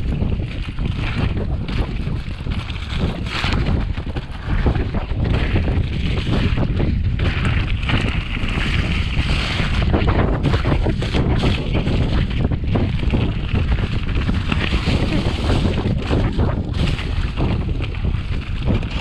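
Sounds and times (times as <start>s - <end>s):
bike rattling over bumps: 0.0s - 19.0s
tyres rolling over dry leaves: 0.0s - 19.0s
wind buffeting microphone: 0.0s - 19.0s.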